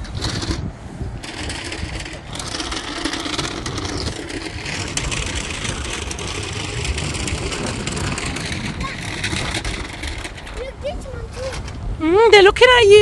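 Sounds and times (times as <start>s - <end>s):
plastic wheels rumbling on tarmac: 0.0s - 13.0s.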